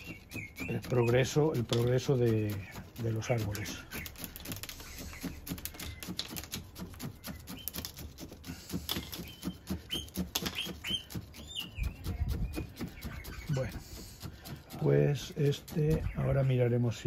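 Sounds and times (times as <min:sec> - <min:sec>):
grains clicking and rattling: 0:00.0 - 0:16.8.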